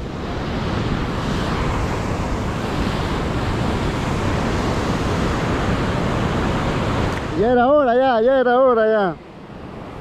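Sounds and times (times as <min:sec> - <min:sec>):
surf washing against rocks: 0:00.0 - 0:10.0
wind rumbling on microphone: 0:00.0 - 0:10.0.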